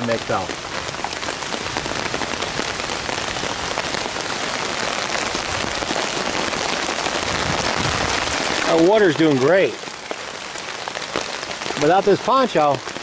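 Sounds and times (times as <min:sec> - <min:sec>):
heavy rain on fabric: 0:00.0 - 0:13.0.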